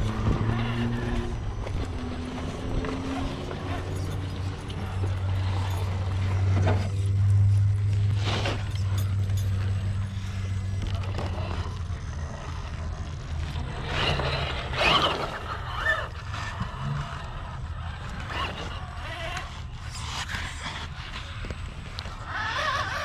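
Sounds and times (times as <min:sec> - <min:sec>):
electric motor and gears whirring: 0:00.0 - 0:23.0.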